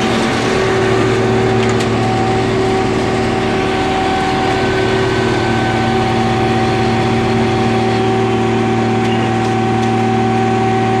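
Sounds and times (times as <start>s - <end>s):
constant whine: 0.0s - 11.0s
hydraulic power unit engine hum: 0.0s - 11.0s.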